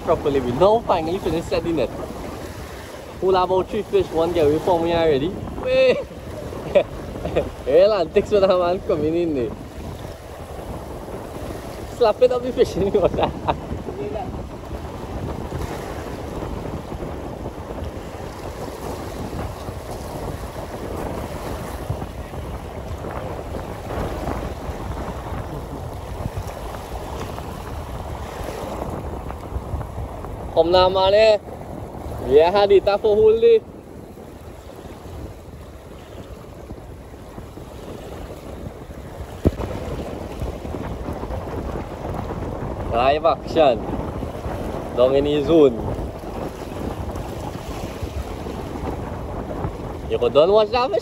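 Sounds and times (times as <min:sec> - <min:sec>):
small waves washing on shore: 0:00.0 - 0:51.0
wind buffeting microphone: 0:00.0 - 0:51.0.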